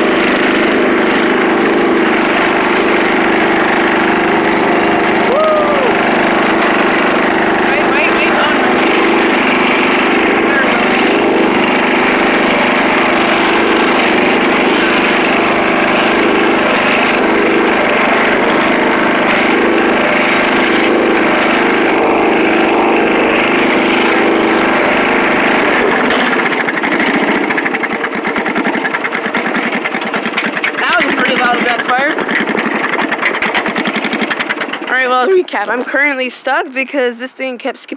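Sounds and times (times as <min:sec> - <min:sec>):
riding lawn mower engine: 0:00.0 - 0:37.9.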